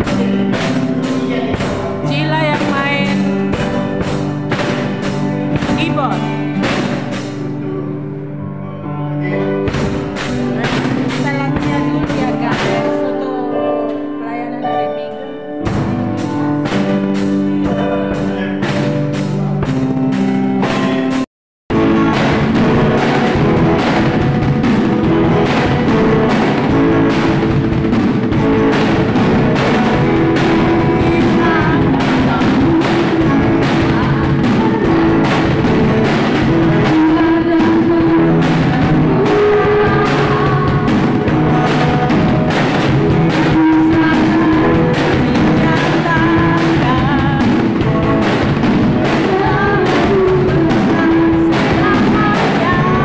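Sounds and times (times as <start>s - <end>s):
drum kit beat: 0.0s - 7.9s, 9.3s - 13.4s, 15.6s - 53.0s
person singing: 0.0s - 19.9s, 20.6s - 27.5s, 28.3s - 53.0s
held chords: 0.0s - 53.0s.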